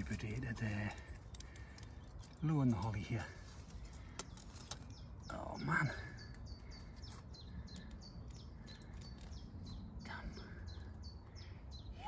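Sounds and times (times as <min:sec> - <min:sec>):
low wind rumble: 0:00.0 - 0:12.0
small bird chipping: 0:00.0 - 0:12.0.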